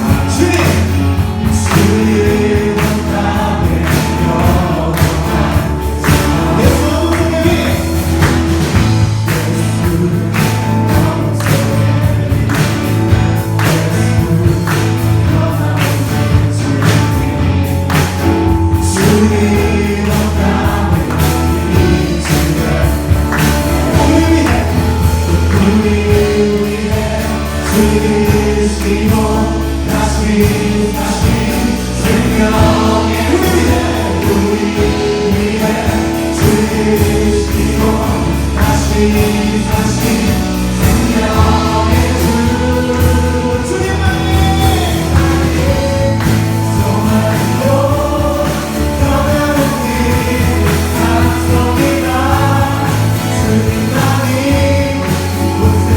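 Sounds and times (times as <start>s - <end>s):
bass line: 0.0s - 55.9s
drum beat: 0.0s - 55.9s
group singing a worship song: 0.0s - 55.9s.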